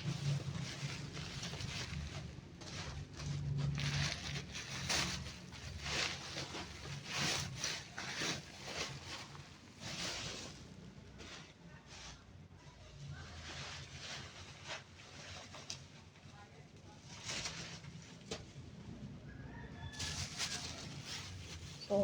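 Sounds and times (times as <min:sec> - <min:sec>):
bags rustling and rubbing: 0:00.0 - 0:18.6, 0:19.9 - 0:22.0.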